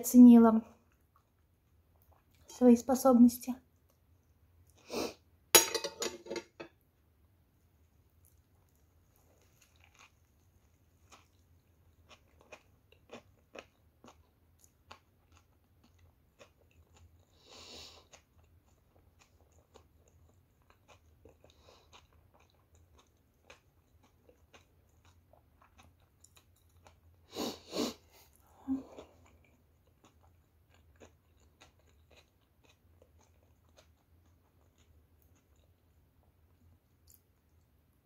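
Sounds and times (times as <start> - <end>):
chewing a sandwich: 0.7 - 2.5, 7.9 - 38.0.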